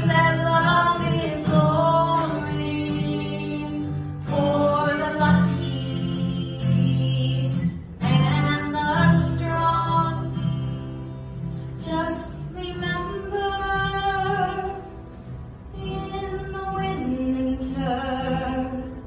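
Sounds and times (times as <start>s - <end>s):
woman singing: 0.0s - 11.0s, 11.7s - 14.9s, 15.7s - 19.0s
acoustic guitar: 0.0s - 19.0s.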